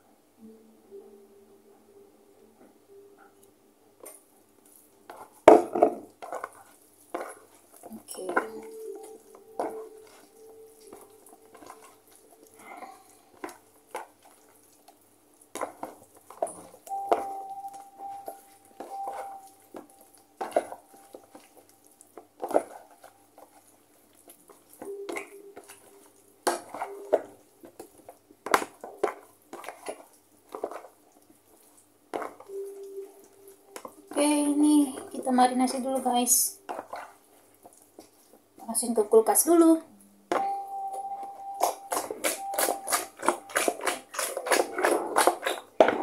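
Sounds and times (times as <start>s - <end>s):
faint steady hum: 0.0s - 46.0s
wet squishes of mixing meat: 4.0s - 39.8s, 40.8s - 46.0s.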